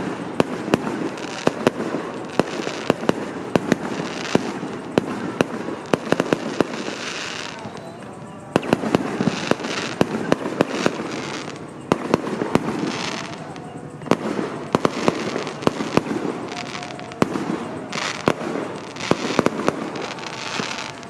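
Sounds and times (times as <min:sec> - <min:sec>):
firecracker bangs: 0:00.0 - 0:21.0
hissing crackle: 0:00.0 - 0:21.0.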